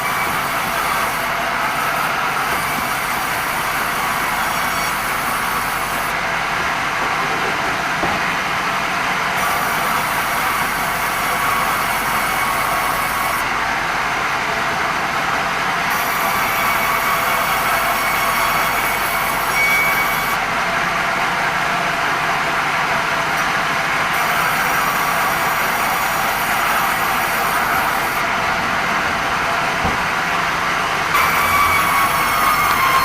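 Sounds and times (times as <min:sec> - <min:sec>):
band saw cutting timber: 0:00.0 - 0:13.6, 0:15.9 - 0:20.4, 0:24.1 - 0:33.0.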